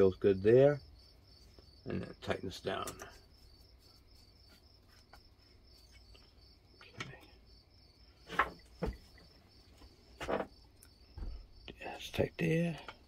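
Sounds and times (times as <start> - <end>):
high insect-like chirping: 0.0 - 13.0.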